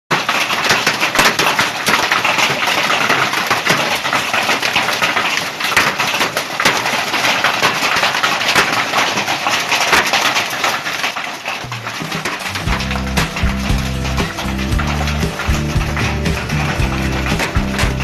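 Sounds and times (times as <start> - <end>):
hailstones pelting down: 0.1 - 18.0.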